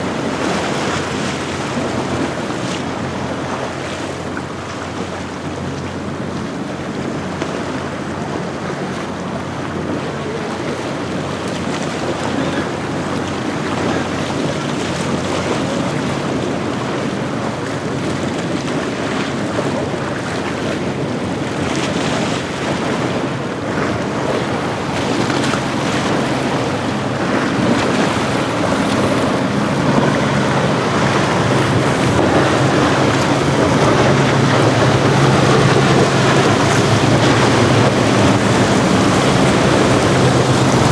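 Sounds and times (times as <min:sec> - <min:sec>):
boat engine humming: 0:00.0 - 0:40.9
water wash: 0:00.0 - 0:40.9
wind buffeting microphone: 0:00.0 - 0:40.9.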